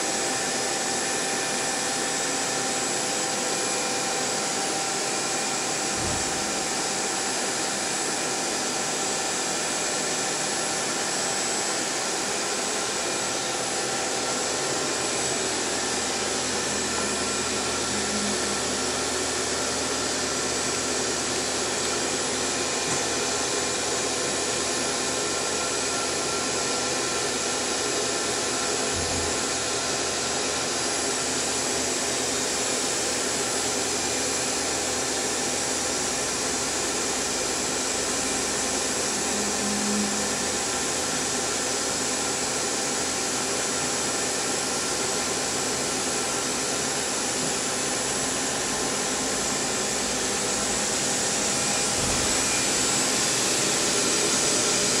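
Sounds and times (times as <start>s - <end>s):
machining centre whirring: 0.0s - 55.0s.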